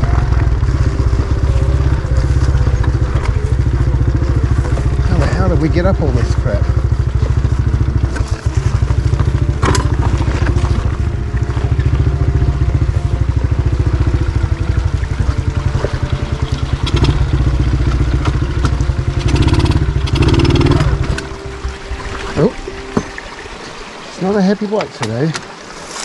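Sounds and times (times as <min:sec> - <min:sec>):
motorbike engine labouring uphill: 0:00.0 - 0:26.0.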